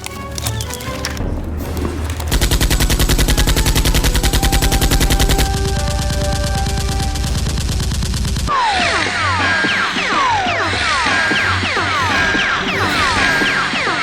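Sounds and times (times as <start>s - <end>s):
background music: 0.0s - 14.0s
rapid automatic gunfire: 2.3s - 14.0s.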